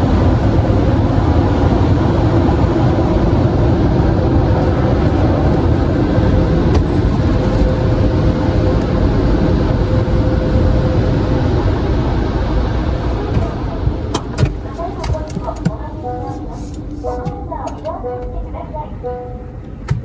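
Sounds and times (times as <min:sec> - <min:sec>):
faint steady hum: 0:00.0 - 0:20.0
loud mechanical noise: 0:00.0 - 0:20.0.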